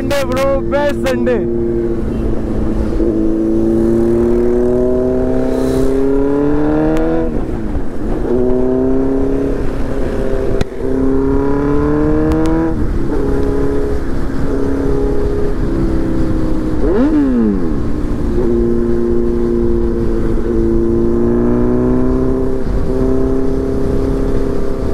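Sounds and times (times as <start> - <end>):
motorcycle engine accelerating: 0.0 - 24.9.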